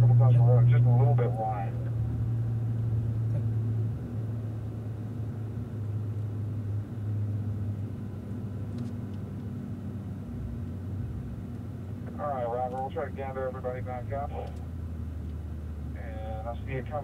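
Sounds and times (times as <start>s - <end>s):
car engine drone: 0.0s - 17.0s
road noise: 0.0s - 17.0s.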